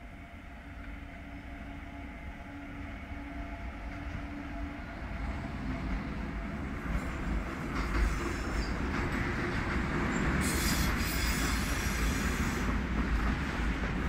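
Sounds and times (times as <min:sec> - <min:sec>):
freight train rumble passing: 0:00.0 - 0:14.0
locomotive hum: 0:00.0 - 0:14.0.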